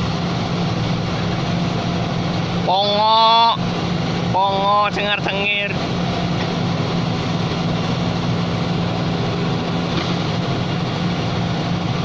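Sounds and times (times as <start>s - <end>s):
piling machine engine running: 0.0s - 12.0s.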